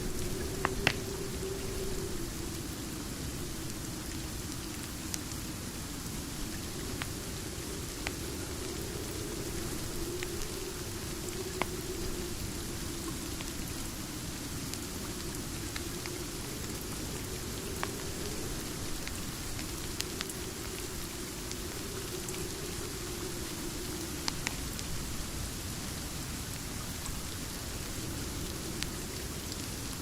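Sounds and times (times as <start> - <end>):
steady rain falling: 0.0 - 30.0
wood fire crackling: 0.0 - 30.0.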